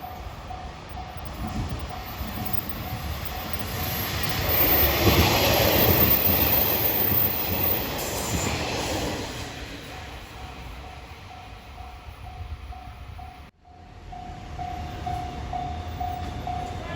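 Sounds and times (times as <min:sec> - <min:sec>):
diesel railcar passing: 0:00.0 - 0:16.9.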